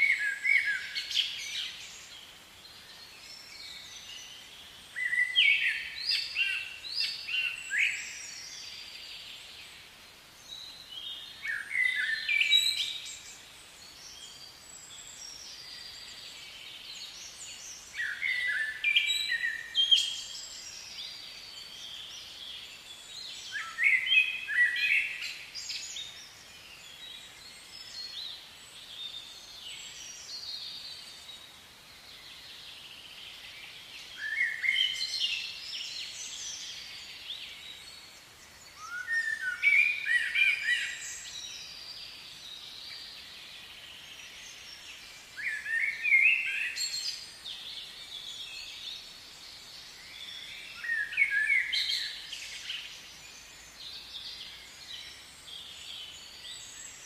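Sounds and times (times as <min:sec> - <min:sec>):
songbird singing: 0:00.0 - 0:57.0
steady outdoor hiss: 0:00.0 - 0:57.0.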